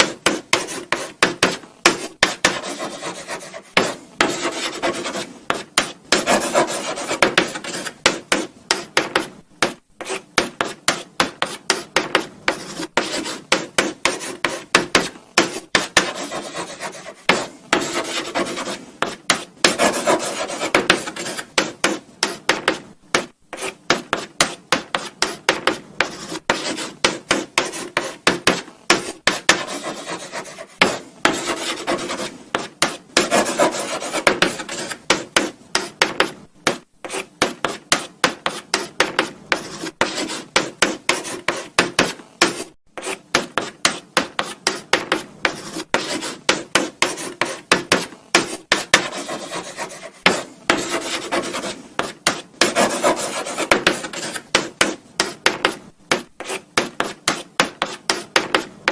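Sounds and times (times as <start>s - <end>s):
chalk scratching on blackboard: 0.0s - 58.9s.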